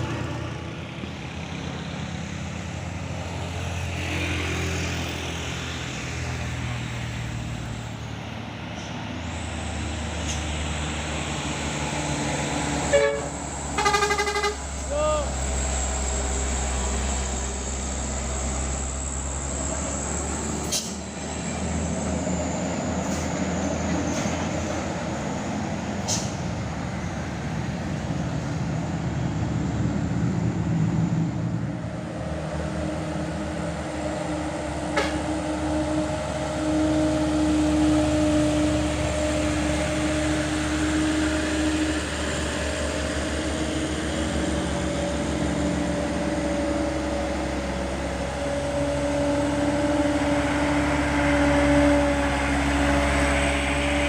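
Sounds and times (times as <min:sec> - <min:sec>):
truck diesel engine pulling hard: 0:00.0 - 0:54.0.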